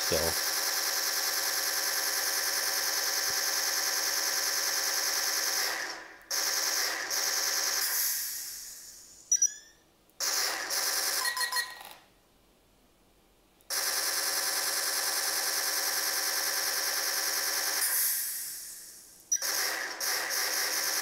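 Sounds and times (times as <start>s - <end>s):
rapid-fire blaster shot effects: 0.1s - 8.9s, 10.2s - 11.3s, 13.7s - 21.0s.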